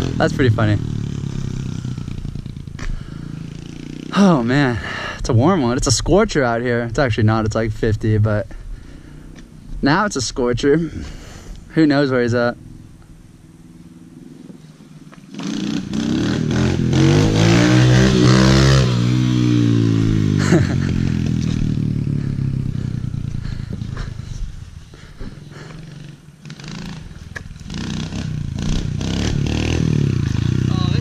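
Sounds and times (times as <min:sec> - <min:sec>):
small motorcycle engine passing: 0:00.0 - 0:05.7, 0:10.9 - 0:31.0.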